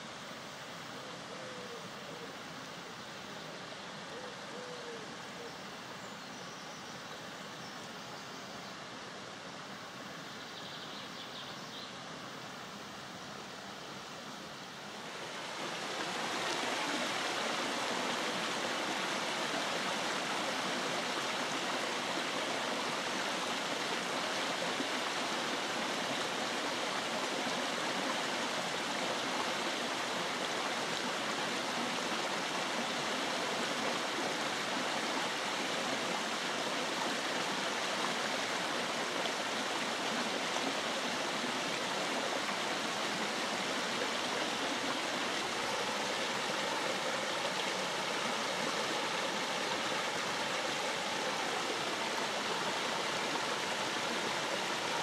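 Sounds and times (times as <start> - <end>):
brook water rushing and splashing: 0.0 - 10.4, 11.0 - 55.0.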